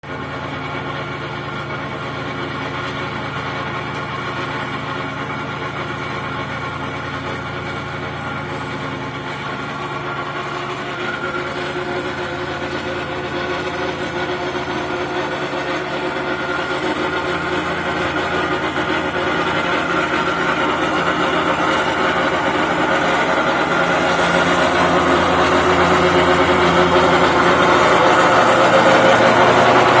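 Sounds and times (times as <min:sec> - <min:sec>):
lawn mower running: 0:00.0 - 0:30.0
rattle under mower deck: 0:00.1 - 0:30.0.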